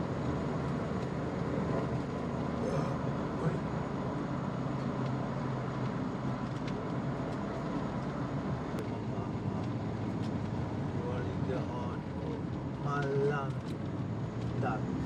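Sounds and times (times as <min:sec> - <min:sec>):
road noise: 0:00.0 - 0:15.0
van engine rumble: 0:00.0 - 0:15.0.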